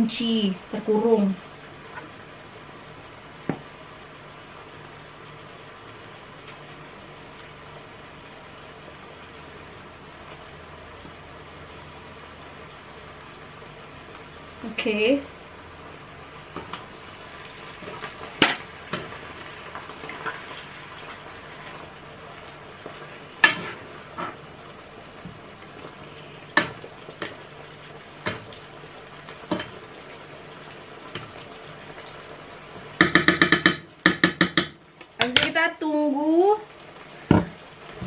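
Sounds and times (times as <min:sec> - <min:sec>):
chicken sizzling in pan: 0:00.0 - 0:38.0.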